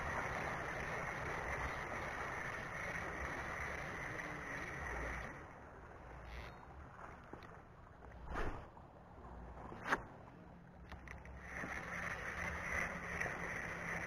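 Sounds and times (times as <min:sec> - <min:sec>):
waves lapping at rocky shore: 0:00.0 - 0:09.9, 0:11.0 - 0:14.0.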